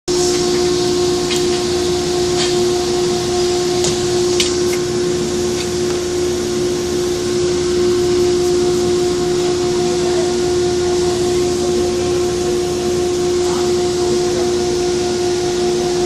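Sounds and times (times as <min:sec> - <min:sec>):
pipe bending machine humming: 0:00.1 - 0:16.0.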